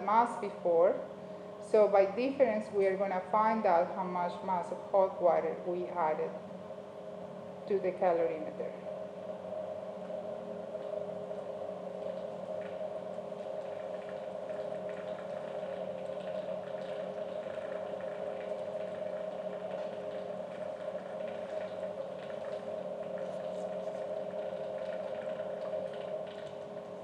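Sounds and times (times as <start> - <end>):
magnetic stirrer hum: 0.0 - 27.0.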